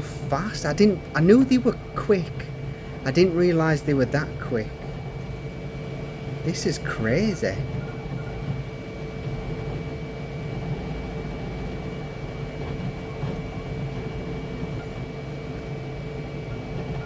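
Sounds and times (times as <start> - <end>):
printer motors humming and whining: 0.0 - 17.0.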